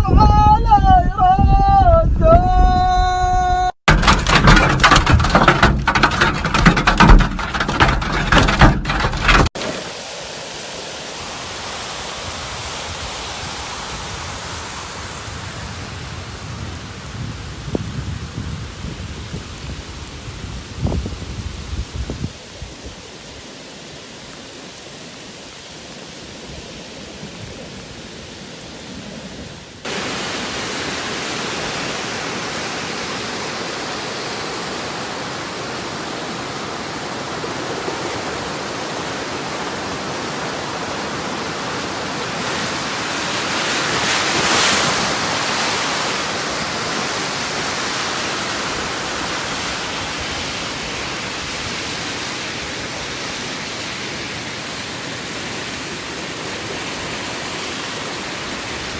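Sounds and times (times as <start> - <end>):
heavy rain rushing: 2.0 - 58.9.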